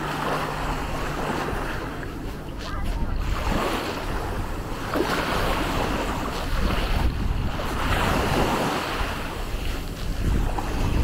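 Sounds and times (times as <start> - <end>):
waves washing onto sandy beach: 0.0 - 11.0
wind rumbling on microphone: 0.0 - 11.0.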